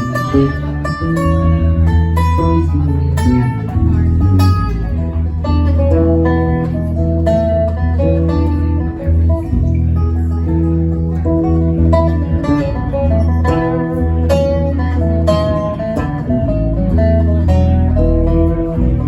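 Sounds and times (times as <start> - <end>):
band music with guitars: 0.0 - 19.0
loud bass line: 0.0 - 19.0.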